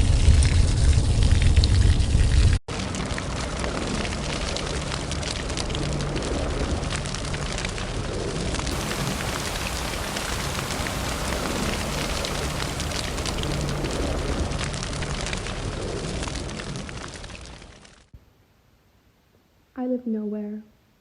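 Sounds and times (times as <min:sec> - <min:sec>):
fire roaring and crackling: 0:00.0 - 0:18.1.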